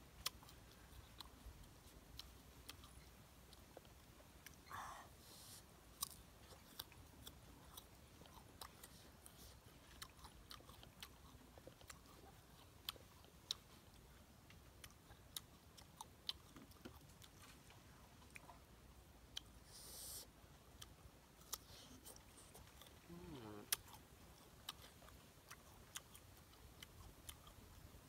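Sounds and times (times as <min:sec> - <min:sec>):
crunchy fruit chewing: 0:00.0 - 0:28.0.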